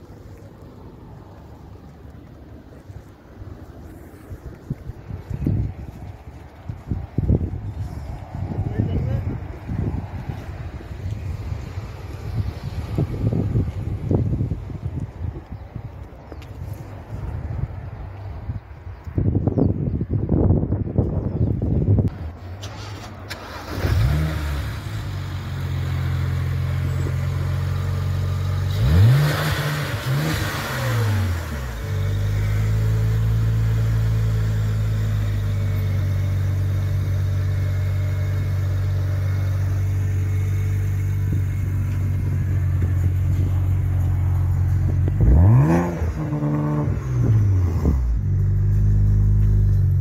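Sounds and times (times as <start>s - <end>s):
car engine idling and revving: 0.0s - 19.2s, 20.7s - 50.0s.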